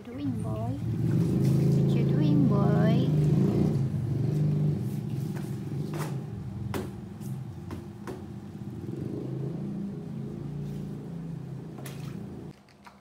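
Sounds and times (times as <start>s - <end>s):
low engine hum: 0.0s - 12.5s.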